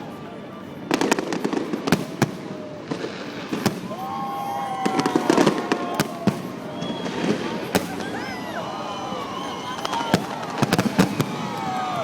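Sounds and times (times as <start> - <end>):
fireworks crackling: 0.0 - 12.0
fireworks bangs: 0.2 - 12.0.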